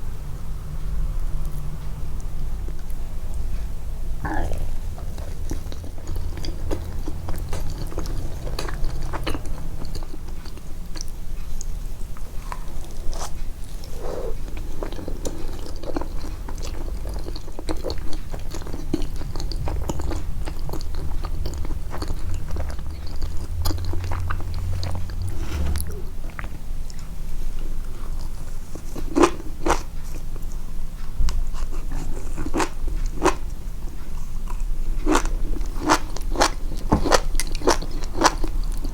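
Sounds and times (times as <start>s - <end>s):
crunchy chewing and biting: 4.2s - 30.4s, 31.3s - 38.9s.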